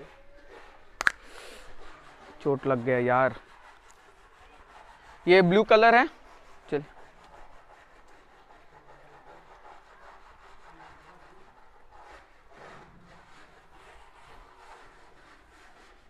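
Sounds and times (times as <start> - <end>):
soft rubbing and rustling: 0.0 - 16.0.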